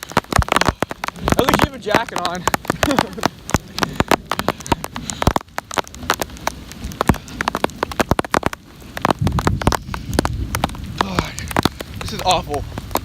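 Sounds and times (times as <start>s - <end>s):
heavy rain hiss: 0.0s - 13.0s
raindrops tapping close by: 0.0s - 13.0s.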